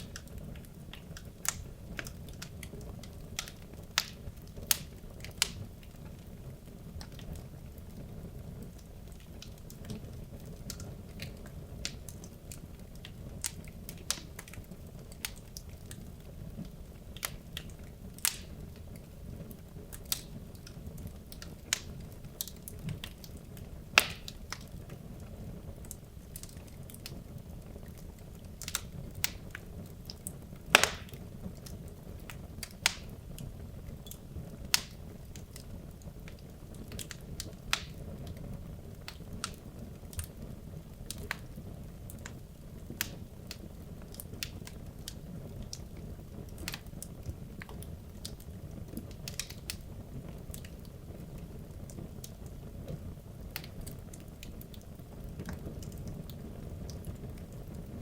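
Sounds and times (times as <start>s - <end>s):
wood logs burning and crackling: 0.0s - 58.0s.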